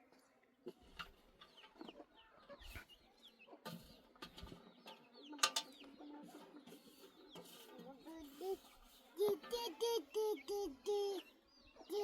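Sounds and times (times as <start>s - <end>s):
chickens clucking: 0.6s - 12.0s.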